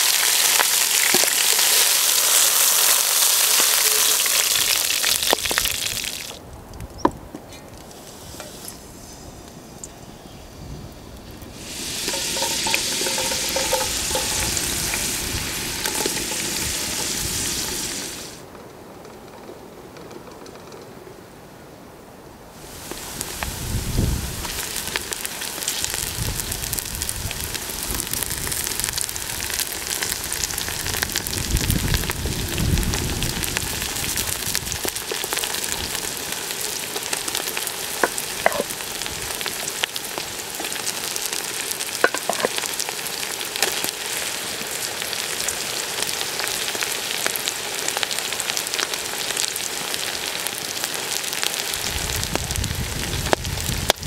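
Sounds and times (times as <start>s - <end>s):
food frying in oil: 0.0s - 6.4s, 11.5s - 18.4s, 22.6s - 54.0s.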